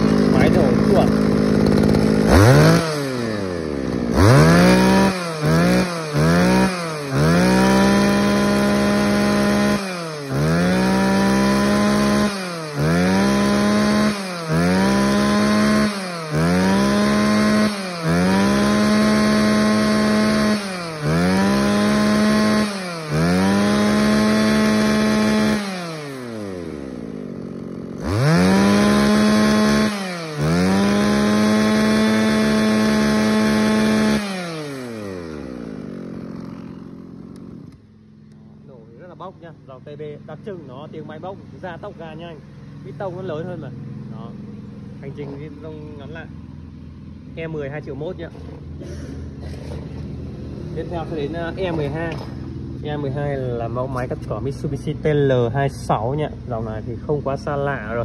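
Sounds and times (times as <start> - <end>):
brush cutter engine revving: 0.0 - 58.0.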